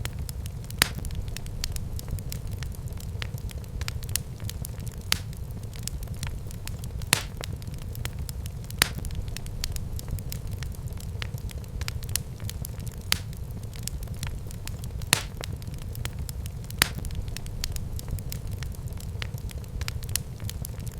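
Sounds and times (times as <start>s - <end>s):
fireplace fire crackling: 0.0s - 20.9s
sharp fire pops: 0.0s - 20.9s.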